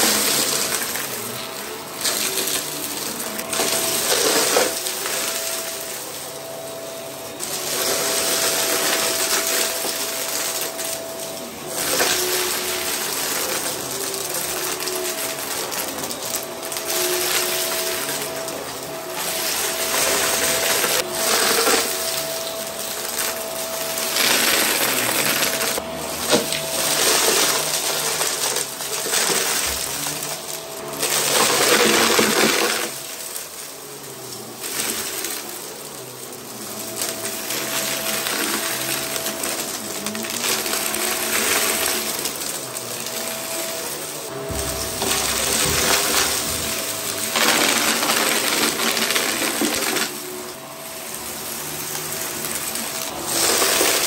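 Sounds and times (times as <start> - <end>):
debris rattling into vacuum: 0.0 - 54.0
vacuum cleaner running on carpet: 0.0 - 54.0.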